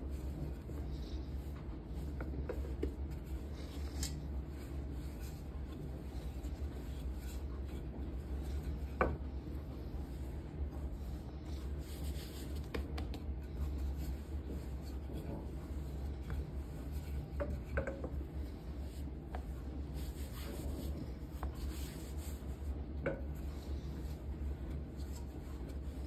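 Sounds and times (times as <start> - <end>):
hands rubbing and pressing dough: 0.0 - 26.0
rolling pin rolling over dough: 0.0 - 26.0
steady low hum: 0.0 - 26.0.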